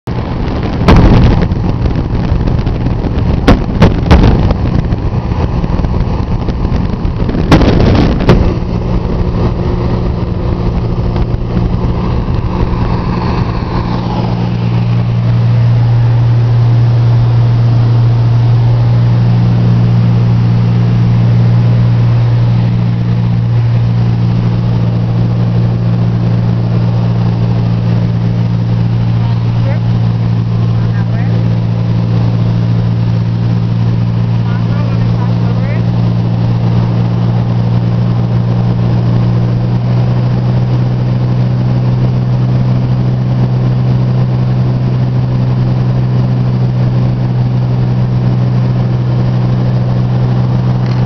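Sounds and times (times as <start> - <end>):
low hum: 0.0 - 51.0
aircraft engine and propeller droning: 0.1 - 51.0.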